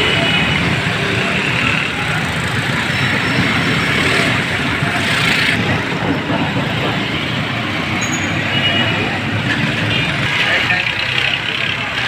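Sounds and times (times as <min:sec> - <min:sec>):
murmur of a crowd: 0:00.0 - 0:12.0
traffic running past: 0:00.0 - 0:12.0.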